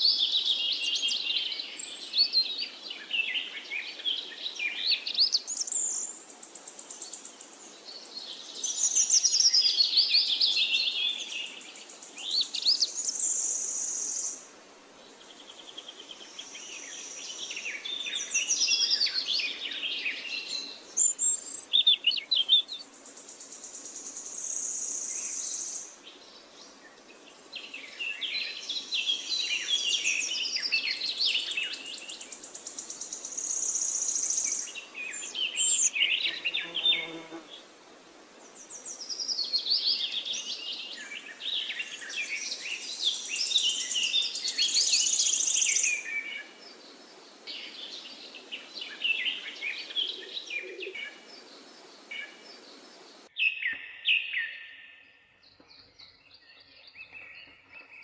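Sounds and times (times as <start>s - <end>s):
birds chirping in chorus: 0.0s - 37.7s, 38.4s - 58.0s.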